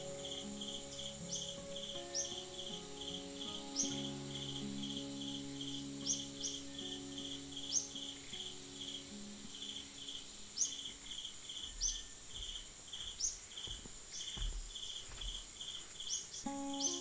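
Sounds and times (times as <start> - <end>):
insect high buzz: 0.0 - 17.0
insect pulsing chirp: 0.0 - 17.0.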